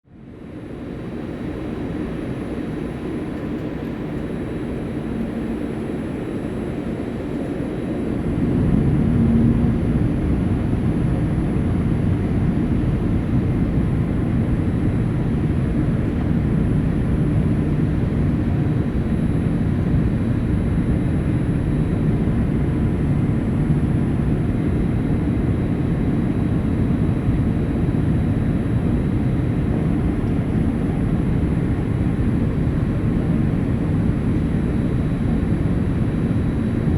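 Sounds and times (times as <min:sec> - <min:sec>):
engine and airflow rumble: 0:00.1 - 0:36.9.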